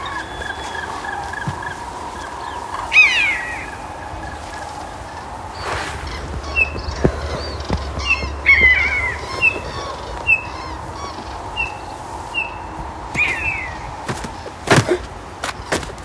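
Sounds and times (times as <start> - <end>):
bird falling calls: 0.0 - 16.0
birds chirping: 0.0 - 16.0.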